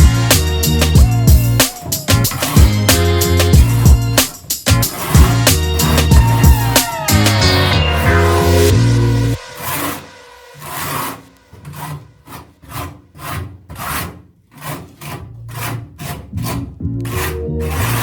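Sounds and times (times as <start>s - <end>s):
hand tool scraping strokes: 0.0s - 18.0s.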